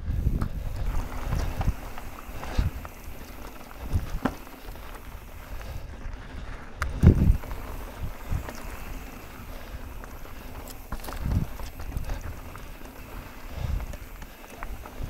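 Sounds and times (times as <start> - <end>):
wind on microphone: 0.0 - 15.0
bike rattling over rocks: 0.2 - 15.0.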